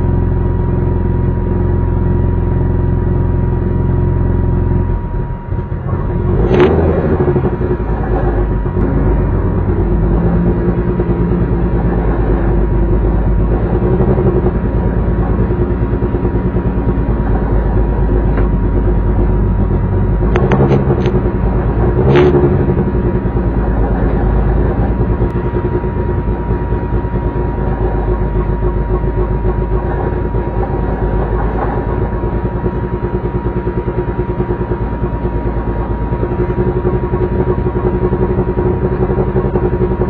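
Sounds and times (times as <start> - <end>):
race car engine running: 0.0 - 40.0.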